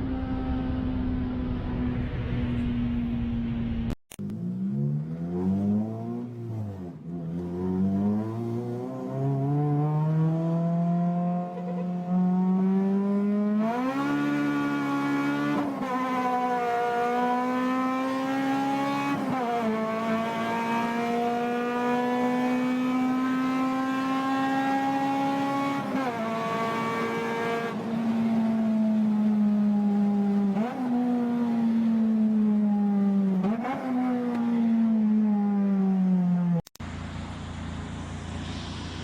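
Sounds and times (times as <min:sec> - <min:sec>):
car engine accelerating hard: 0:00.0 - 0:35.2.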